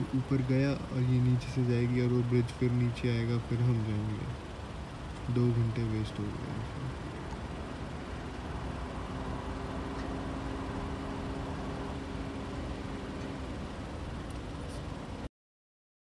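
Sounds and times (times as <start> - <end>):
car engine idling: 0.0 - 15.3.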